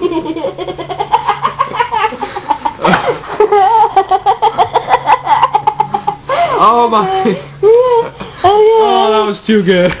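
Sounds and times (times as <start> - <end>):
person laughing hard: 0.0 - 8.2
faint low hum: 0.0 - 10.0.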